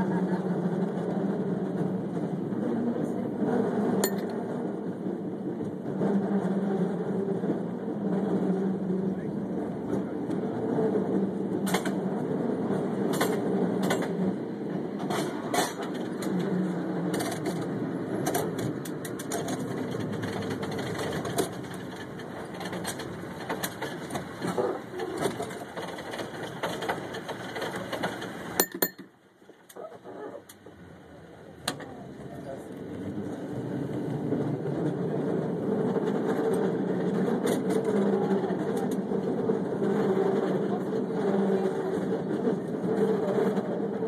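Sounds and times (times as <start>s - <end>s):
cable car rumble and hum: 0.0s - 29.0s, 29.6s - 44.0s
clicks and clacks of cable car: 0.0s - 44.0s.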